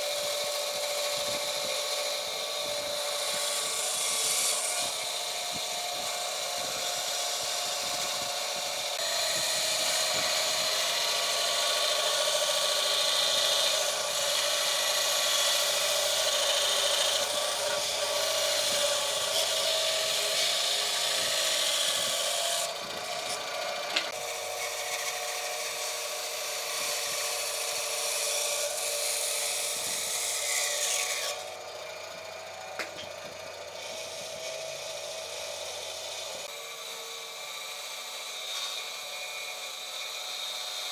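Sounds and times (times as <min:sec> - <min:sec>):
power tool running against wood: 0:00.0 - 0:40.9.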